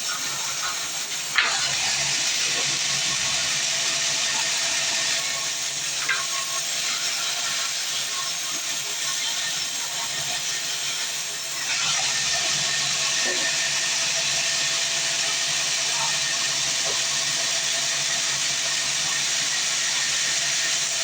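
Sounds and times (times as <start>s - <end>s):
saw blade cutting log: 0.0s - 21.0s.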